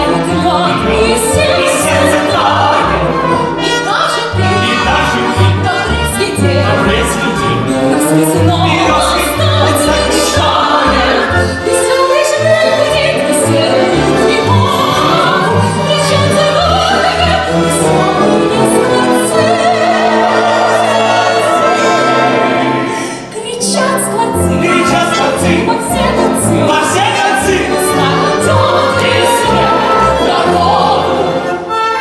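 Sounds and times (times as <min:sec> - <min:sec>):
operatic singing: 0:00.0 - 0:32.0.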